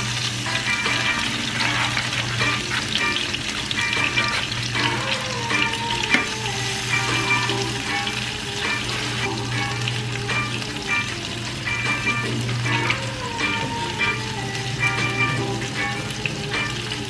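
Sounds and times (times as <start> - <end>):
crab cakes sizzling in oil: 0.0 - 17.0.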